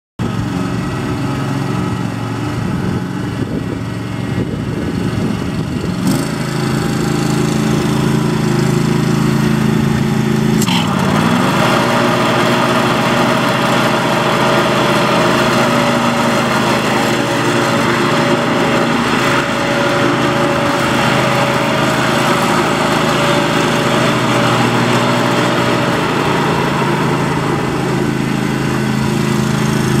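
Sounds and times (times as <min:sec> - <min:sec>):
riding mower engine running: 0:00.2 - 0:30.0.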